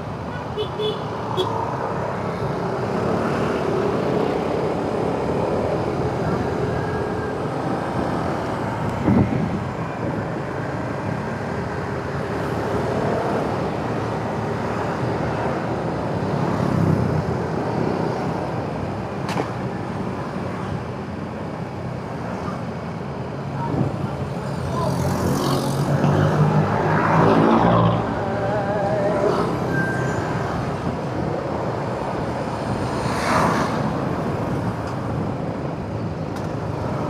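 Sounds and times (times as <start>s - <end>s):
motorcycle engine and road noise: 0.0s - 37.0s
surrounding traffic: 0.0s - 37.0s.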